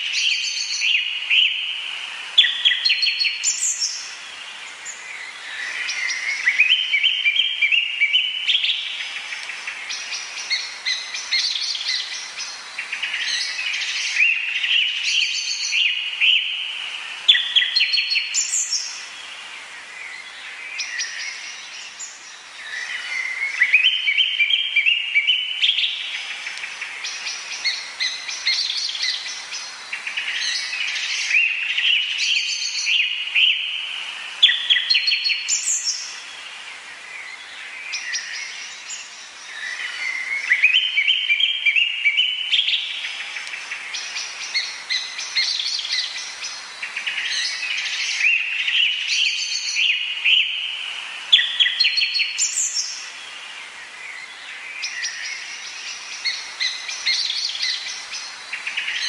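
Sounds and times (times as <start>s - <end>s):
tropical birds chirping and trilling: 0.0s - 59.0s.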